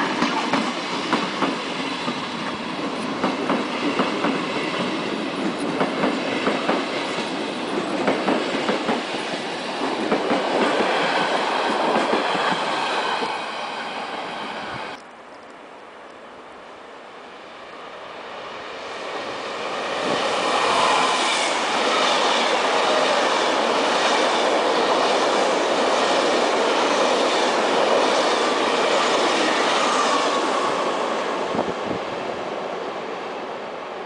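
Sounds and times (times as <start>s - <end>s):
train wheels on rails: 0.0s - 15.0s, 18.0s - 33.2s.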